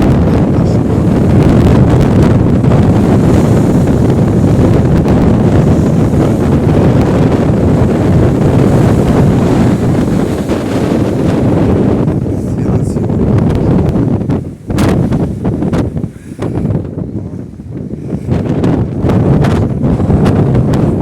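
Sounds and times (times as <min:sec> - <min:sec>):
storm wind buffeting microphone: 0:00.0 - 0:21.0
surf: 0:00.0 - 0:21.0.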